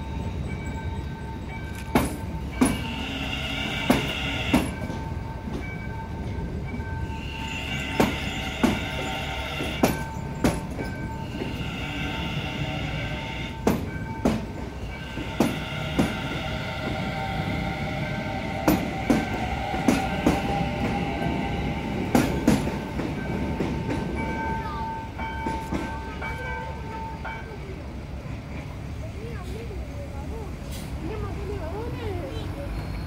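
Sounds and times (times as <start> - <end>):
train rumbling: 0.0 - 33.0
wheels clacking over rail joints: 0.8 - 12.3, 13.5 - 29.8.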